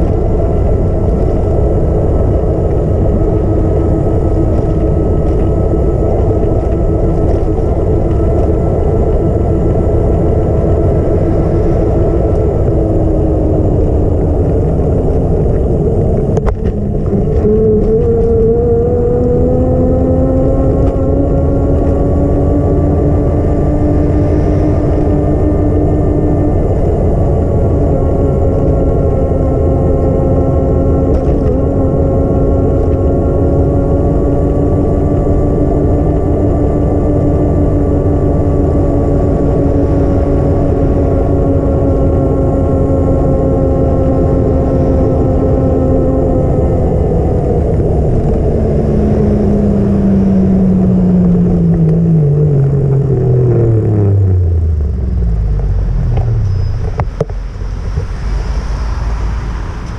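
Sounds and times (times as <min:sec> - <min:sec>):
road and wind noise: 0:00.0 - 0:59.9
vehicle engine running: 0:00.0 - 0:59.9.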